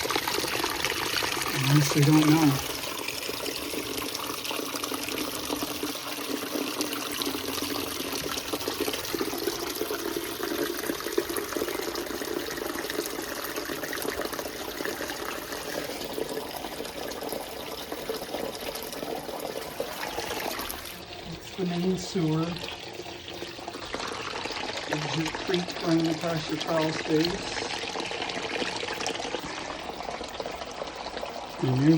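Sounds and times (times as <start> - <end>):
water trickling across floor: 0.0 - 31.9.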